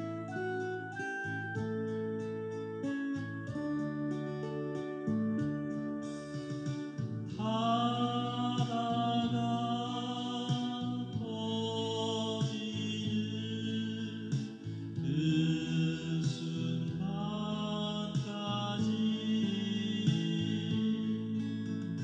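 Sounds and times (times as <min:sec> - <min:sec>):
person singing a slow ballad: 0:03.5 - 0:22.0.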